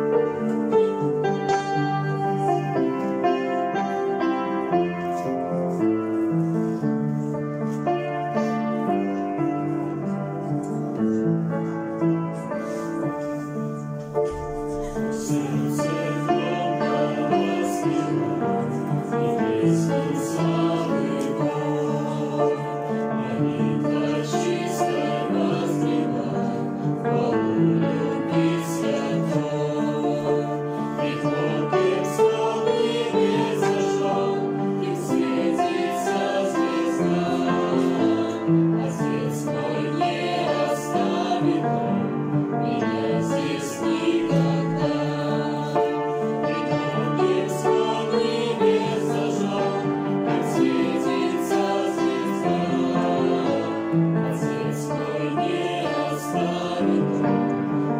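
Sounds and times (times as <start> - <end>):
mixed choir singing a hymn: 0.0 - 57.9
piano accompaniment: 0.0 - 57.9.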